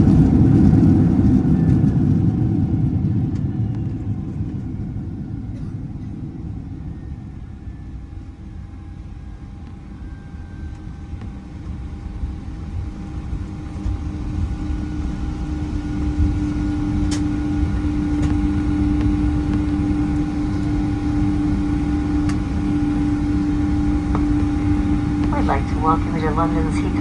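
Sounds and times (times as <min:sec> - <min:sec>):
jet engine cabin drone: 0:00.0 - 0:27.0.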